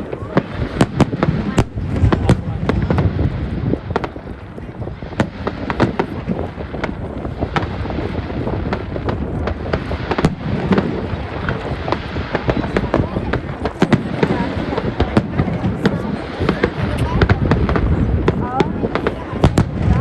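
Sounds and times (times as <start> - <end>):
fireworks bangs and crackles: 0.0 - 20.0
wind on microphone: 0.0 - 20.0.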